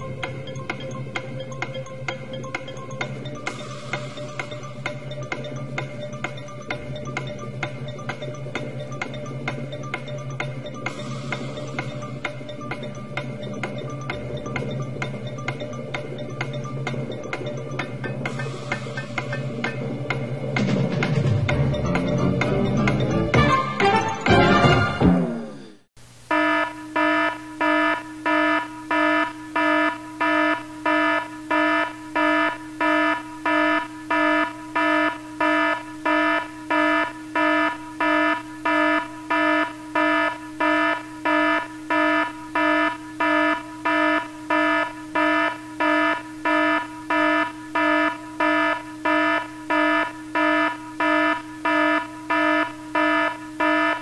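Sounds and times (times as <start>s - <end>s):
buzzy timer alarm beeps: 0.0s - 20.5s, 26.3s - 54.0s.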